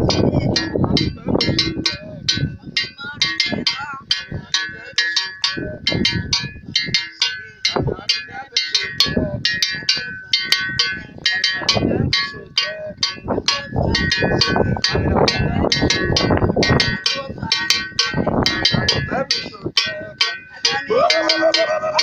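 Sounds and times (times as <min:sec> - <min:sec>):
metal bell struck rapidly: 0:00.0 - 0:22.0.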